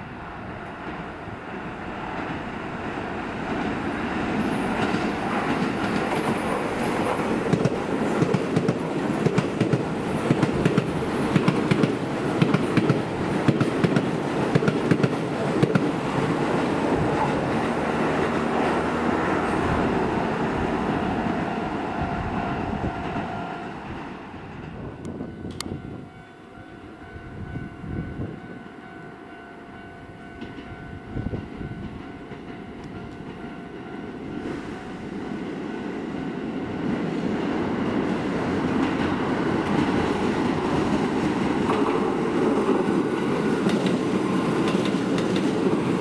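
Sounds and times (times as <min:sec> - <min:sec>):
electric train running past: 0:00.0 - 0:46.0.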